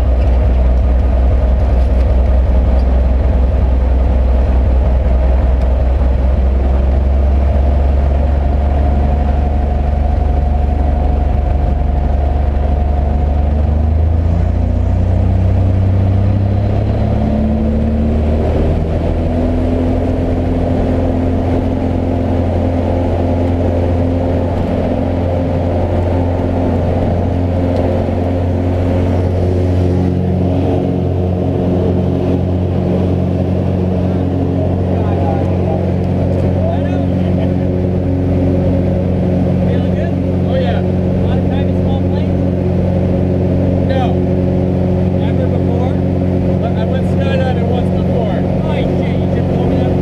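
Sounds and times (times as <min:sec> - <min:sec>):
propeller plane engine running: 0:00.0 - 0:50.0.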